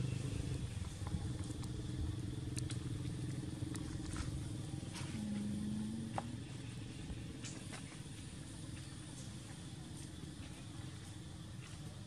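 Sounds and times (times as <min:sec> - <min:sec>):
low steady tone: 0:00.0 - 0:11.5
vehicle engine droning: 0:00.0 - 0:12.0.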